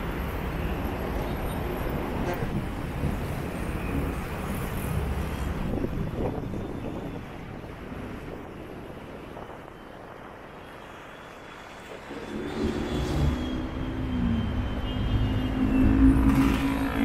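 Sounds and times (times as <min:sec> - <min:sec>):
road traffic rumble: 0:00.0 - 0:17.0
wind noise on microphone: 0:01.0 - 0:17.0.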